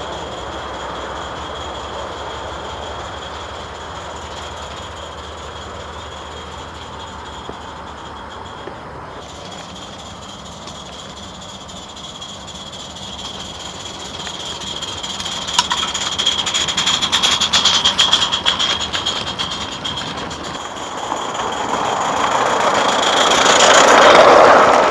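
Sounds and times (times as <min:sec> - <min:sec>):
rapid chuffing exhaust beats: 0:00.0 - 0:24.9
rushing noise: 0:00.0 - 0:24.9
steam hiss: 0:00.0 - 0:24.9.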